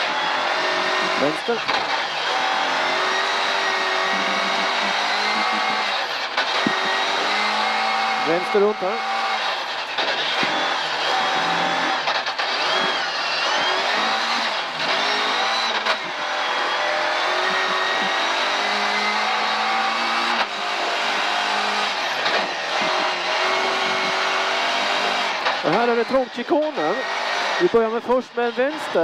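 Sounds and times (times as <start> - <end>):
rally car engine revving hard: 0.0 - 29.0.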